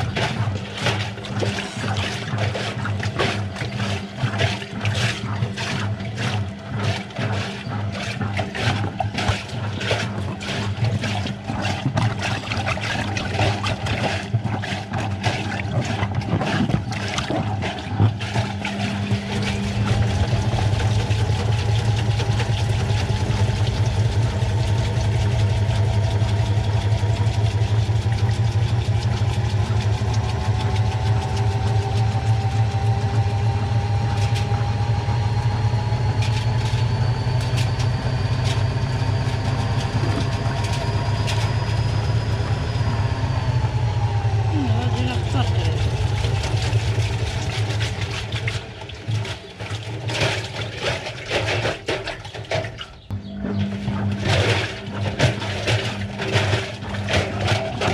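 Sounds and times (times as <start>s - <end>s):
washing machine motor whine: 0.0s - 57.9s.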